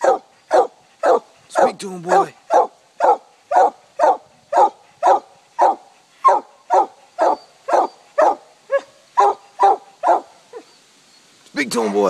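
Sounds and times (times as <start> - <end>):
dog barking: 0.0 - 10.7.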